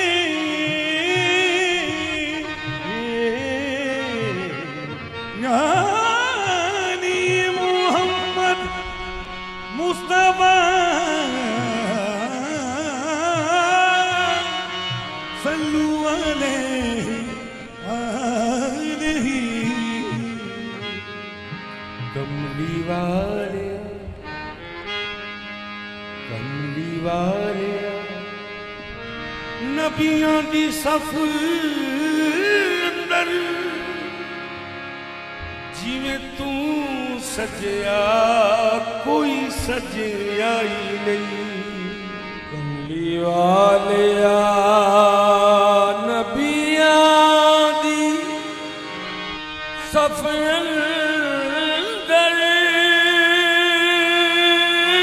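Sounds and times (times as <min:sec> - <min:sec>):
person singing with vibrato: 0:00.0 - 0:24.6, 0:29.4 - 0:34.7, 0:35.6 - 0:55.0
sustained harmonium notes: 0:00.0 - 0:55.0.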